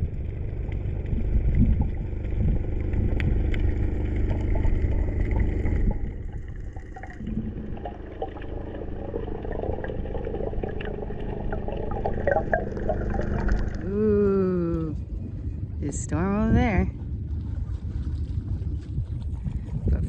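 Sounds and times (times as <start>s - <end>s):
heavy low rumble: 0.0s - 20.0s
water lapping and splashing: 0.0s - 20.0s
water sloshing and gurgling: 0.0s - 20.0s.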